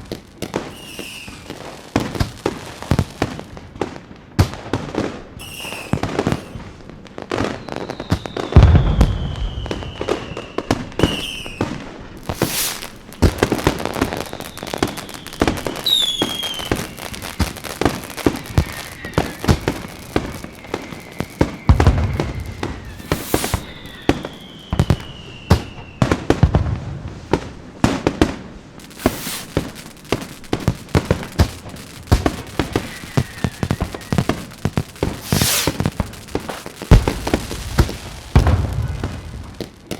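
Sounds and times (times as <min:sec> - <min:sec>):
firework crackling pops: 0:00.0 - 0:39.9
firework whistles falling in pitch: 0:00.5 - 0:02.3, 0:05.4 - 0:26.6, 0:28.8 - 0:39.9
deep firework booms: 0:05.9 - 0:39.9.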